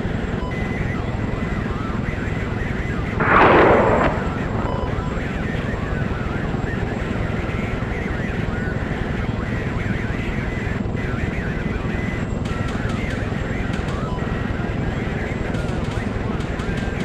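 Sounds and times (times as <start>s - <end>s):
aircraft drone in flight: 0.0s - 17.0s.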